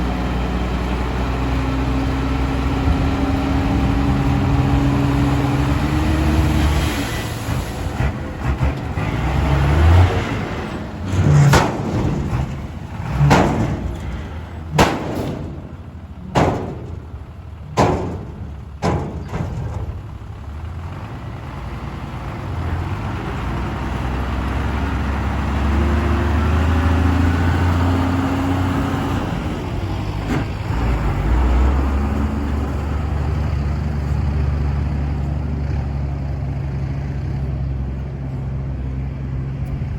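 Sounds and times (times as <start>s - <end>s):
diesel truck engines running: 0.0s - 39.9s.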